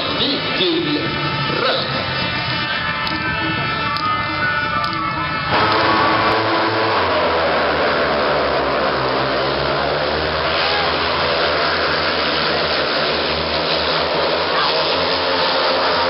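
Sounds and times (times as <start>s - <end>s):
motorcycles racing at high revs: 0.0s - 16.0s.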